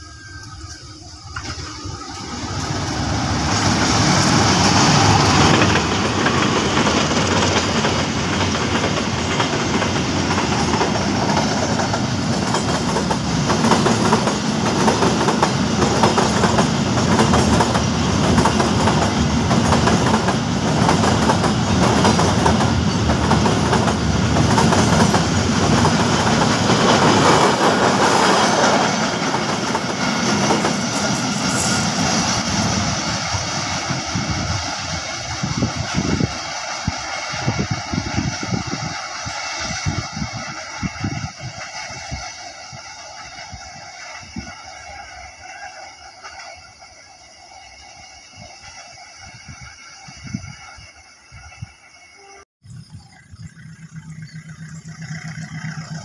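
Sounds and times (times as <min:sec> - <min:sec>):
wheels clickety-clack over rail joints: 0:00.0 - 0:49.0, 0:52.8 - 0:56.0
freight train rumble: 0:00.0 - 0:56.0.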